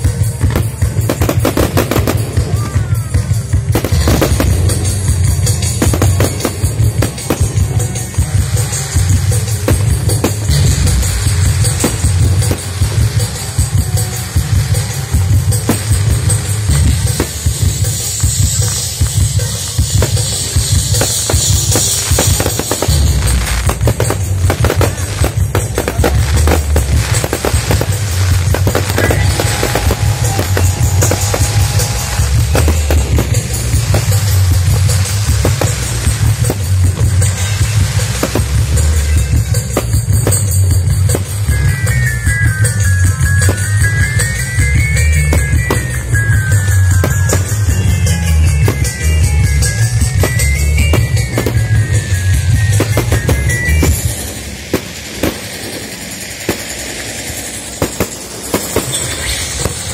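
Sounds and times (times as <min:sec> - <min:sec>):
fireworks bursting: 0:00.0 - 0:59.9
loud music with heavy beat: 0:00.0 - 0:59.9.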